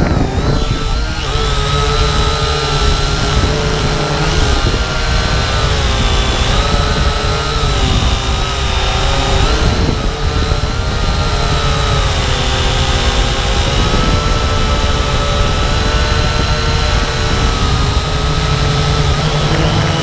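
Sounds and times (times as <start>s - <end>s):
drone motors and propellers whining: 0.0s - 20.0s.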